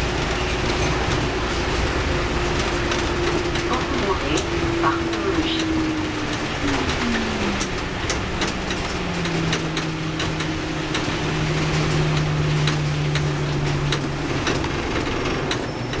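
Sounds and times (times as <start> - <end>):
road noise: 0.0 - 16.0
vehicle engine humming: 0.0 - 16.0
sharp clicks and knocks: 2.6 - 16.0.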